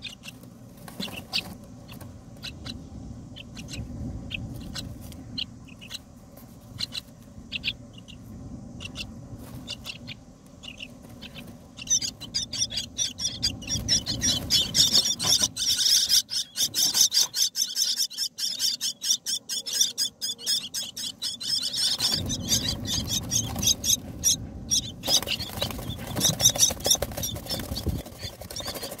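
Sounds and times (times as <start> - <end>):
nestlings begging calls: 0.0 - 29.0.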